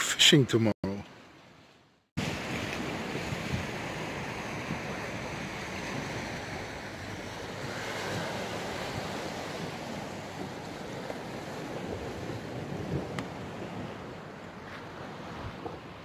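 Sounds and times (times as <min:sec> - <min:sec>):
sea waves breaking on rocks: 0:02.2 - 0:16.0
wind on microphone: 0:02.2 - 0:16.0.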